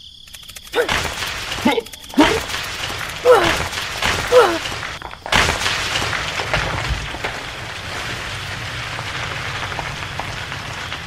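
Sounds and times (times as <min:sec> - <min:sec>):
gritty hiss: 0:00.6 - 0:11.0.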